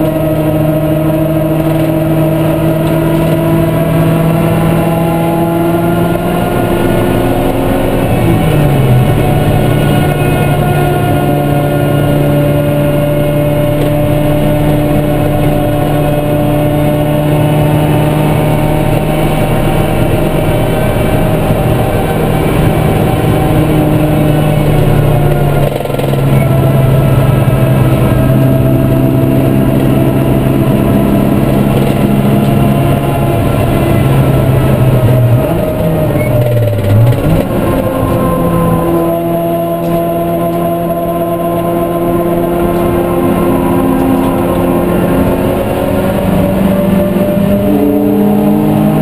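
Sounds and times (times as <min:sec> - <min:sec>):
car engine at high revs: 0:00.0 - 0:49.0.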